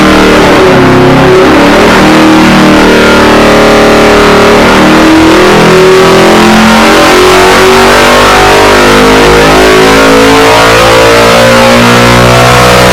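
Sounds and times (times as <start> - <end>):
engine revving under load: 0.0 - 12.9.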